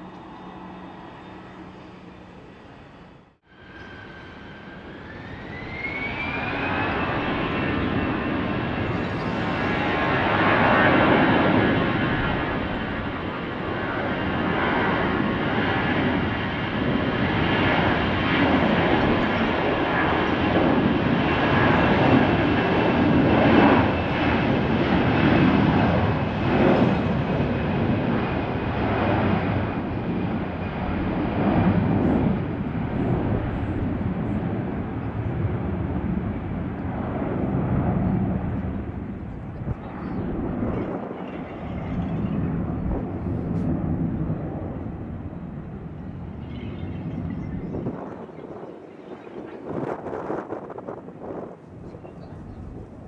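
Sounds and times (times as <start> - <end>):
jet engine whine: 0.0 - 53.0
jet engines roaring: 0.0 - 53.0.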